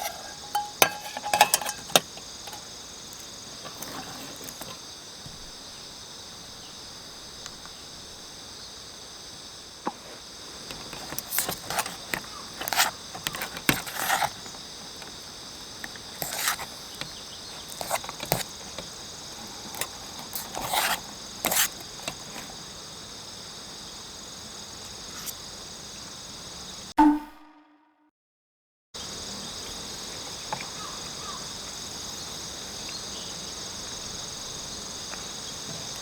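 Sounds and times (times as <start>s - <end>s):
insects chirping: 0.0s - 26.9s, 29.0s - 36.0s.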